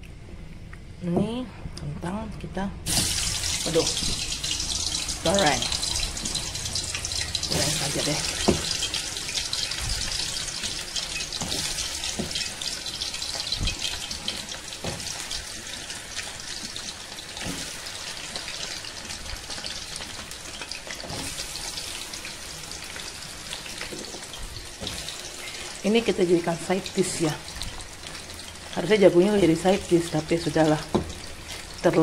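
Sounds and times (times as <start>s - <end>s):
potatoes sizzling in hot oil: 2.9s - 32.0s.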